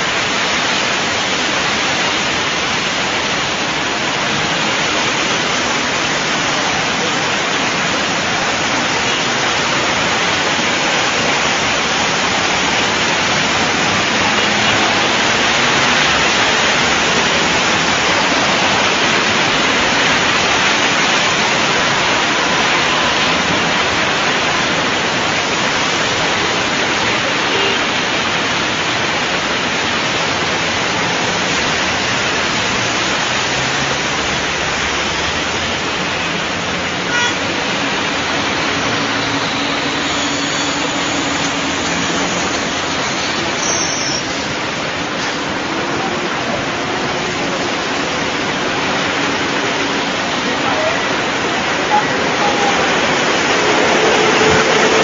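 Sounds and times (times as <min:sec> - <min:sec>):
heavy rain: 0:00.0 - 0:55.0
running floodwater: 0:00.0 - 0:55.0.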